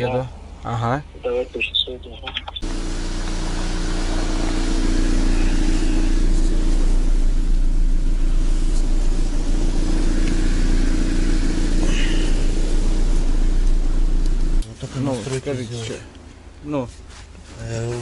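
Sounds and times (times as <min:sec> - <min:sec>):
van engine idling: 0:00.0 - 0:18.0.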